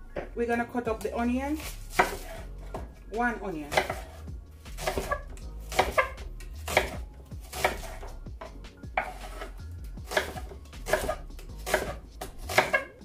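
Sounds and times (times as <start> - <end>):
knife slicing onion on board: 1.6 - 2.8, 3.7 - 13.0.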